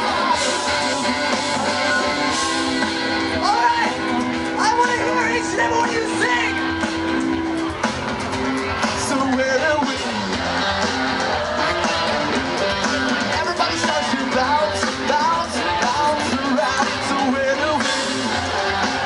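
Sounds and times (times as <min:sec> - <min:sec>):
person singing lead vocal: 0:00.0 - 0:06.9, 0:08.6 - 0:19.0
drums: 0:00.0 - 0:19.0
electric guitars: 0:00.0 - 0:19.0
keyboards: 0:00.0 - 0:19.0.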